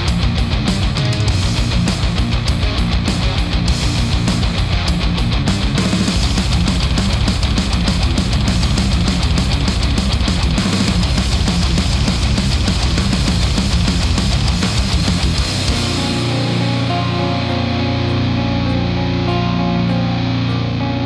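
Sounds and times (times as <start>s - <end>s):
heavy rock music: 0.0s - 21.0s.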